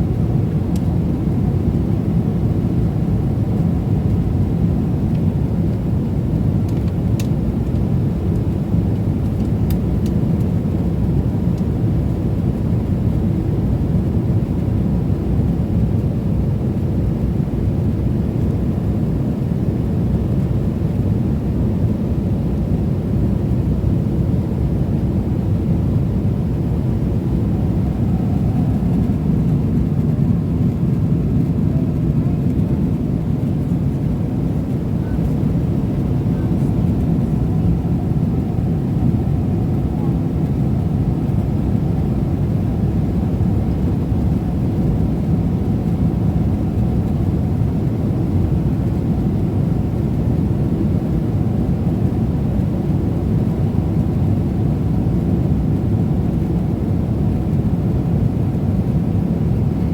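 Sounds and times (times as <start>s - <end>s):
aircraft cabin engine rush: 0.0s - 59.9s.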